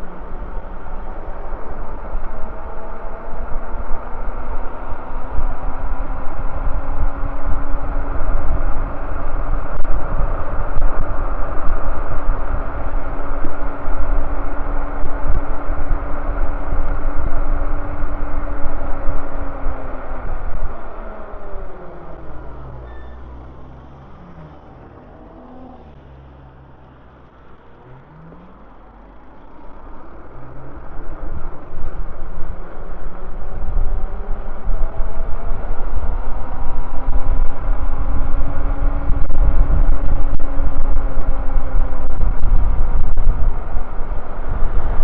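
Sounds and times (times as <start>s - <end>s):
wind buffeting microphone: 0.0s - 28.0s, 28.6s - 45.0s
electric motor whine: 0.0s - 45.0s.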